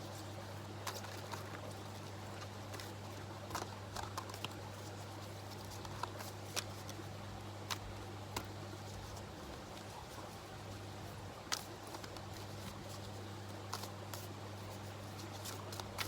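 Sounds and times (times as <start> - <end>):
cards being shuffled: 0.8 - 16.0.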